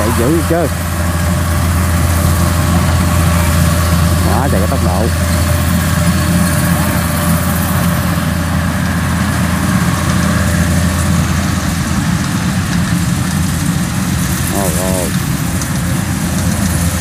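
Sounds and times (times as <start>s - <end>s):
diesel engine droning under load: 0.0s - 17.0s.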